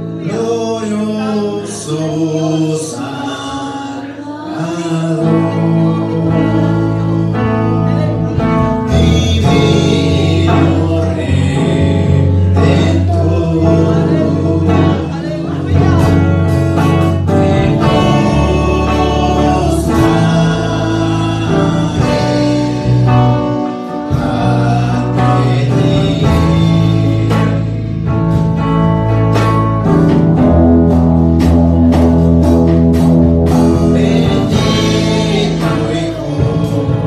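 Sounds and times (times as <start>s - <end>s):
man singing: 0.0s - 28.9s, 31.4s - 37.0s
instrumental accompaniment: 3.0s - 37.0s.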